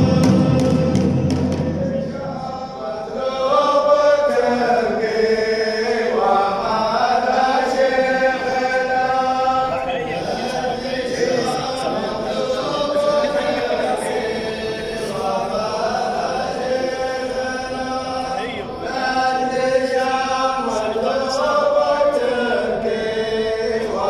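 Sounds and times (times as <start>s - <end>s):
men chanting together: 0.0s - 24.0s.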